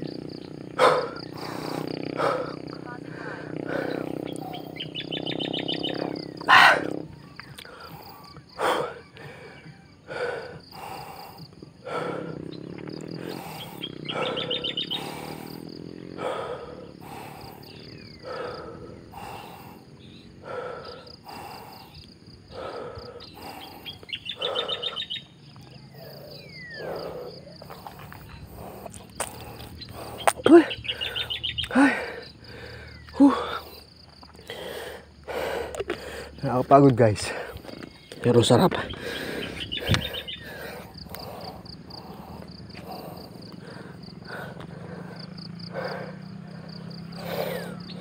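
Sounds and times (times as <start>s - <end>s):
high rapid bird trill: 0.0s - 35.5s, 36.2s - 48.0s
short bird calls: 0.0s - 35.7s, 36.3s - 48.0s.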